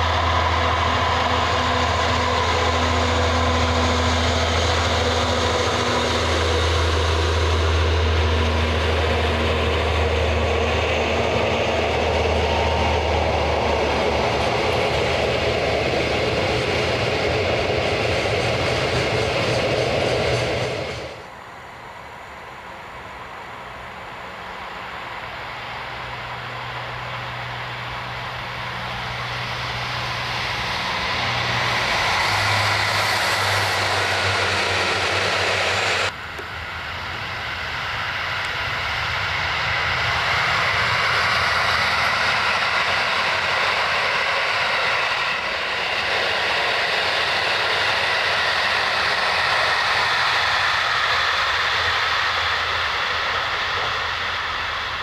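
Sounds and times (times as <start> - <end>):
low engine drone: 0.0 - 55.0
train rushing past: 0.0 - 55.0.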